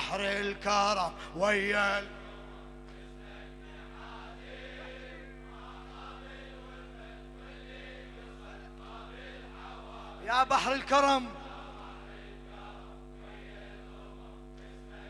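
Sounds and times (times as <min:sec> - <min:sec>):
steady held drone: 0:00.0 - 0:15.0
faint group chanting: 0:00.9 - 0:15.0.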